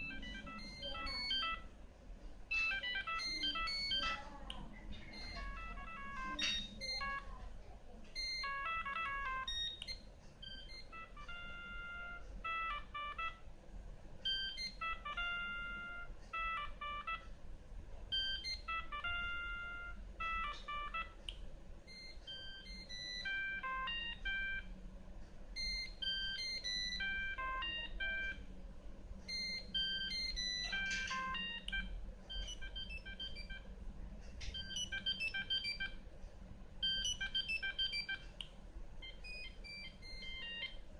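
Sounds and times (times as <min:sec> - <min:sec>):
mobile phone ringtone melody: 0:00.0 - 0:01.7, 0:02.5 - 0:07.4, 0:08.1 - 0:13.5, 0:14.2 - 0:17.4, 0:18.1 - 0:21.2, 0:21.9 - 0:24.8, 0:25.6 - 0:28.5, 0:29.2 - 0:33.8, 0:34.4 - 0:36.0, 0:36.8 - 0:38.3, 0:39.0 - 0:40.9.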